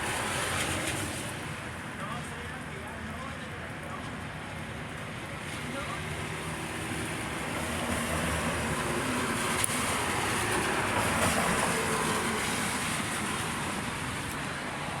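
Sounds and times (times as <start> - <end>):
vehicle passing on wet road: 0.0 - 15.0.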